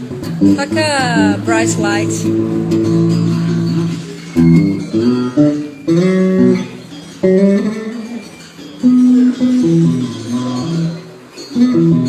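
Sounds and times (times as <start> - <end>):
guitar plucked notes and chords: 0.0 - 12.0.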